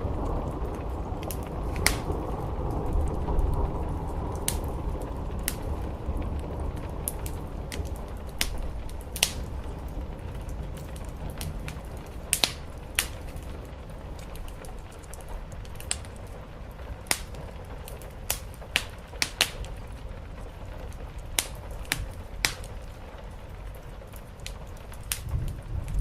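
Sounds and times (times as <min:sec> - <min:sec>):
rain hissing: 0:00.0 - 0:26.0
wood fire crackling: 0:00.0 - 0:26.0.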